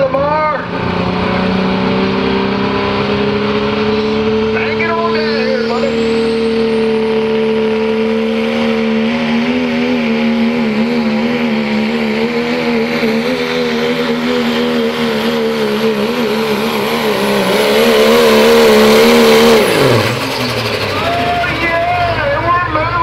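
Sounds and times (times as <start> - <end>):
diesel engine under full load: 0.0 - 23.0.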